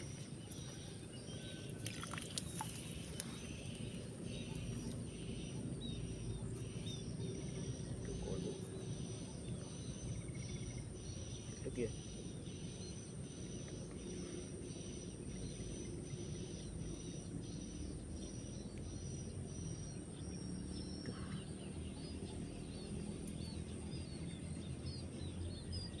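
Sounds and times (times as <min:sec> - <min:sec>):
insect chirps: 0:00.0 - 0:20.8.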